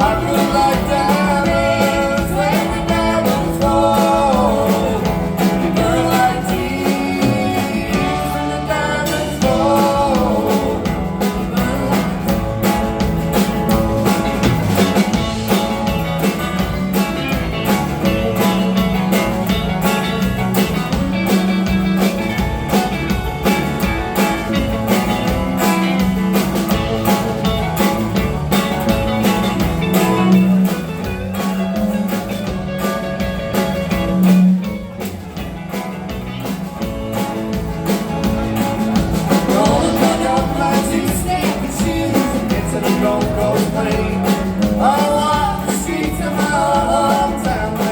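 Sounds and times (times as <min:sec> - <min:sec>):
blues-rock band playing: 0:00.0 - 0:47.9.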